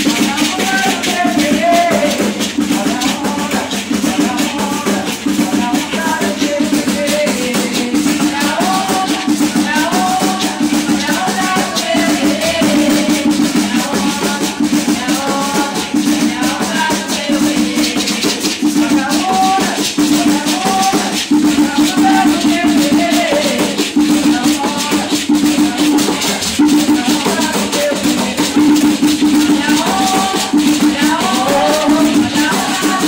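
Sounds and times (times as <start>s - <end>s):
hand drums: 0.0s - 33.0s
maracas: 0.0s - 33.0s
voices singing: 0.0s - 33.0s.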